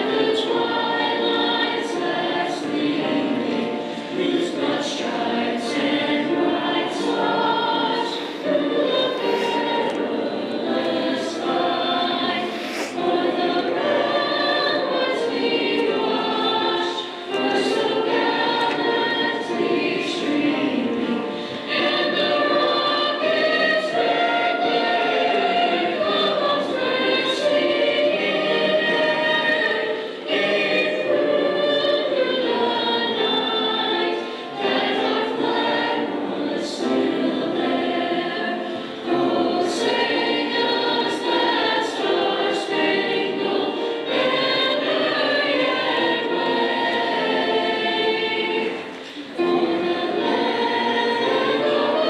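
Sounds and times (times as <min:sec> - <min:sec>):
choir singing: 0:00.0 - 0:52.0.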